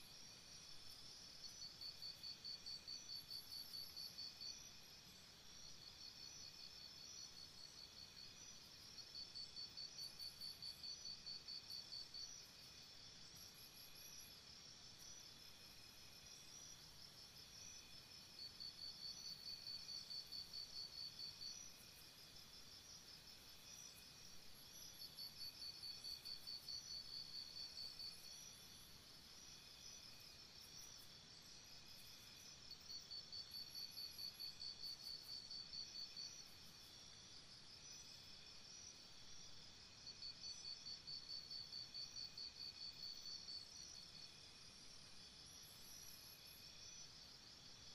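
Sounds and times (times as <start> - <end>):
pulsing insect chirp: 0.0 - 47.4.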